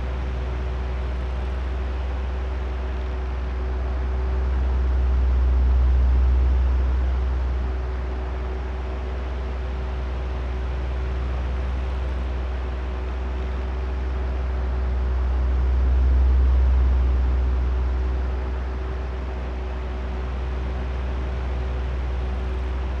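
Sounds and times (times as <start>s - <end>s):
electric fan drone: 0.0s - 23.0s.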